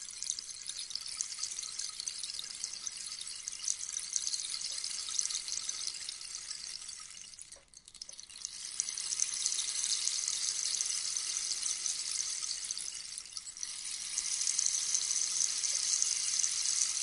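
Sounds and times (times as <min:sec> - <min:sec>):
rainstick pellets trickling: 0:00.0 - 0:17.0.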